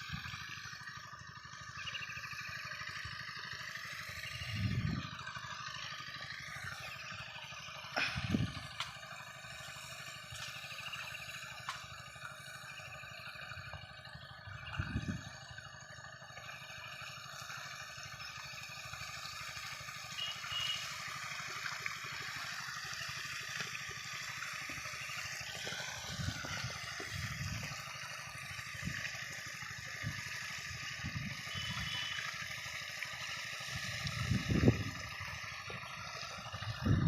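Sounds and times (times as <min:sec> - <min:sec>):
water pouring and gurgling: 0:00.0 - 0:37.0.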